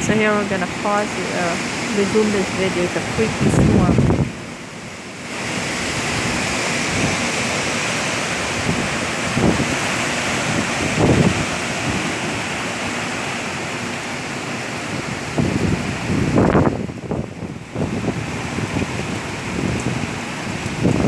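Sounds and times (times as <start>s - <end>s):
wind buffeting microphone: 0.0s - 13.2s, 14.6s - 21.0s
heavy rain hiss: 0.0s - 21.0s.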